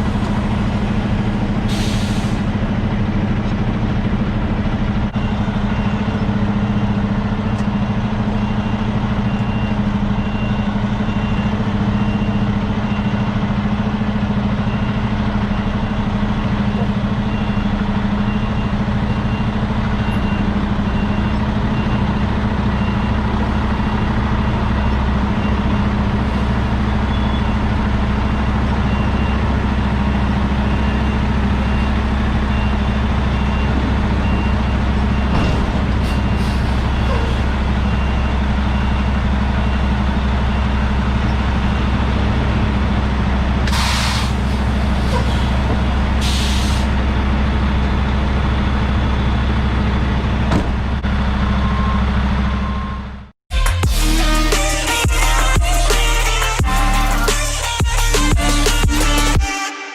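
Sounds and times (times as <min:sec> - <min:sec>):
diesel truck engine humming: 0:00.0 - 0:59.4.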